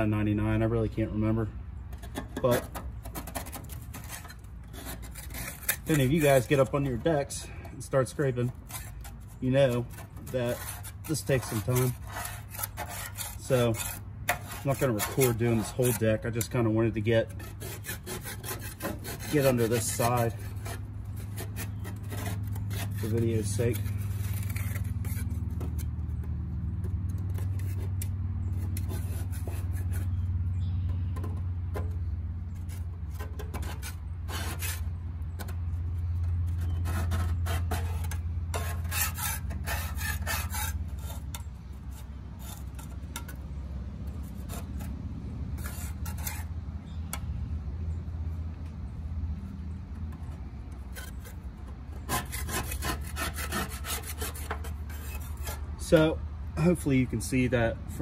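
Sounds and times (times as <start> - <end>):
scraper rasping on mower deck: 0.0 - 47.3, 49.4 - 58.0.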